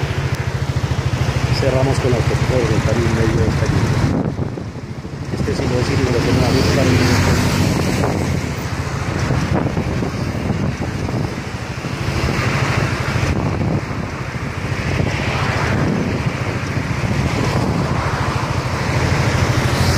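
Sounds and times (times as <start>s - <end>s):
traffic on wet road: 0.0s - 19.9s
wind buffeting microphone: 0.0s - 19.9s.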